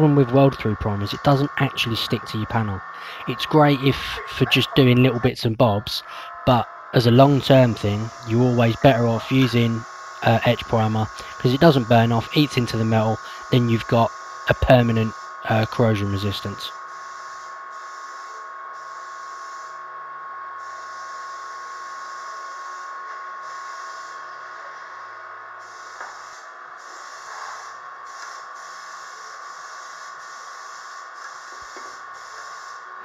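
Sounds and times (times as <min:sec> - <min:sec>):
steady hiss: 0:00.0 - 0:18.4, 0:23.6 - 0:32.9
high-pitched hum: 0:00.0 - 0:33.0.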